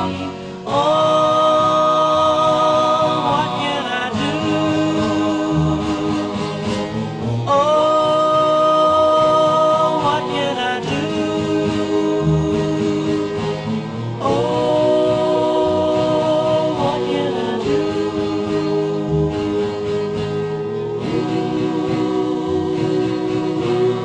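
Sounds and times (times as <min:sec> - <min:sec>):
vocal group singing harmony: 0:00.0 - 0:24.0.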